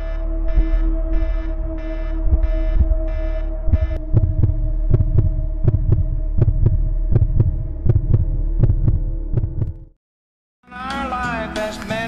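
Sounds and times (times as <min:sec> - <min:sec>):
steady low drone tone: 0:00.0 - 0:09.9
heartbeat double thump: 0:00.0 - 0:10.0.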